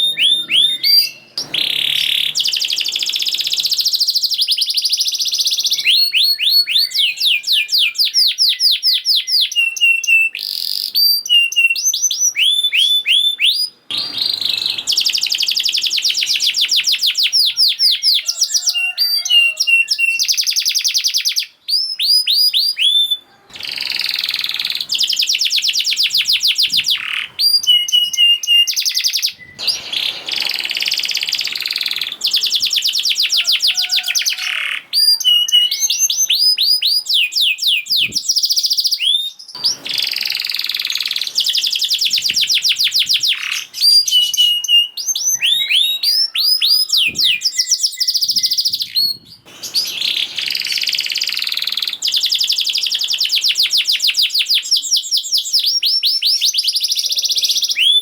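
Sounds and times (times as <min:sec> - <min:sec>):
canary singing rapid trills: 0:00.0 - 0:58.0.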